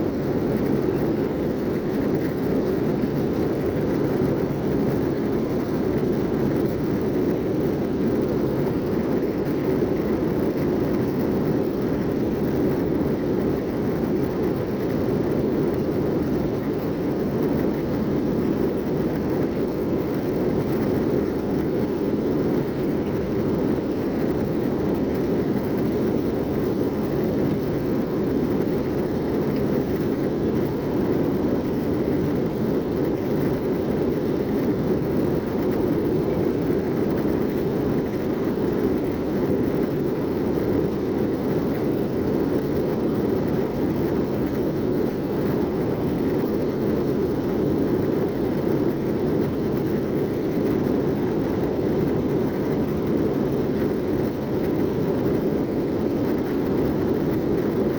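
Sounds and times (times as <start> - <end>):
jet engine drone: 0.0 - 57.9.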